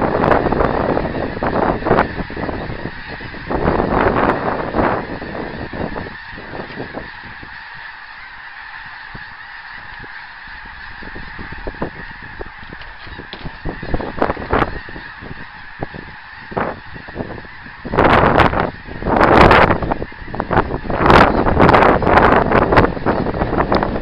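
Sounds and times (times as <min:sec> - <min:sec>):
geese honking: 0:00.0 - 0:24.0.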